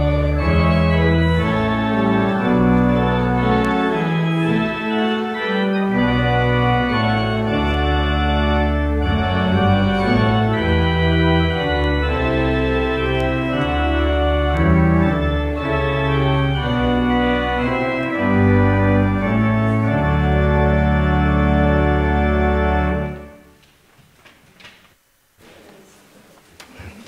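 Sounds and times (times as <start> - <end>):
church organ chords: 0.0 - 23.6.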